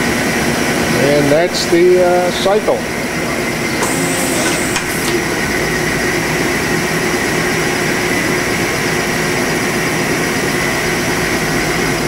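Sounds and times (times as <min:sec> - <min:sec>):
machine hum with held tones: 0:00.0 - 0:12.0.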